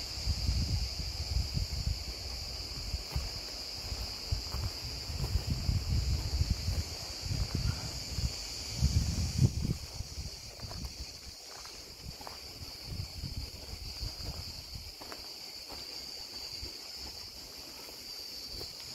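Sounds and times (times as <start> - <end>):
high-pitched insect drone: 0.0 - 18.9.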